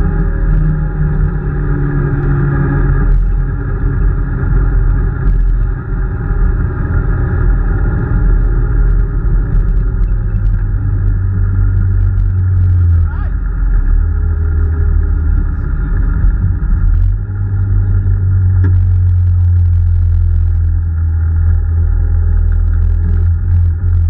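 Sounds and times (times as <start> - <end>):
rally car engine running hard: 0.0 - 24.0
road and tyre noise: 0.0 - 24.0.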